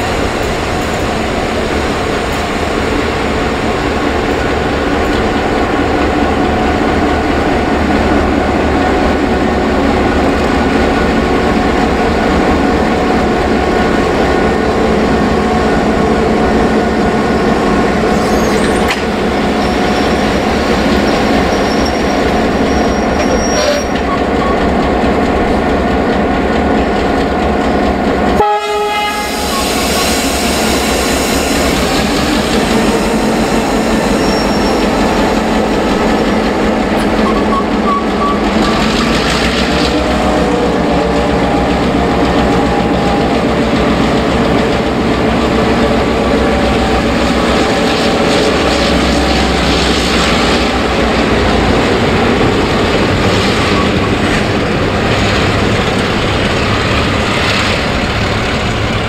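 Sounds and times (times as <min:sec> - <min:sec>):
diesel locomotive engines droning: 0:00.0 - 0:59.0.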